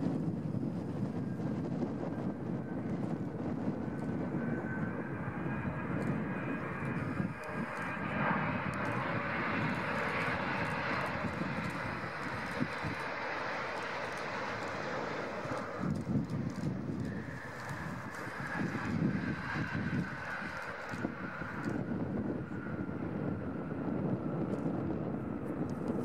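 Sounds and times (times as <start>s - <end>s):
jet airliner engines roaring: 0.0s - 26.0s.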